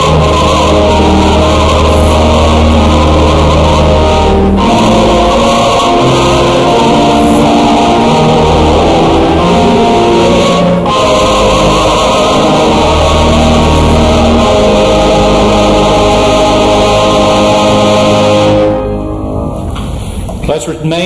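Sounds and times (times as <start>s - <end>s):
instrumental church music chords: 0.0s - 21.0s
loud steady hiss: 0.0s - 21.0s.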